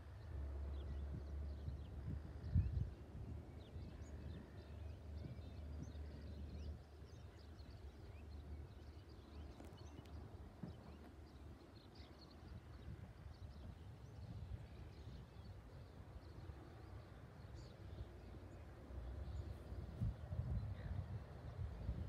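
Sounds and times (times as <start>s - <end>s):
wind rumble on microphone: 0.0s - 22.0s
small birds chirping: 0.7s - 22.0s.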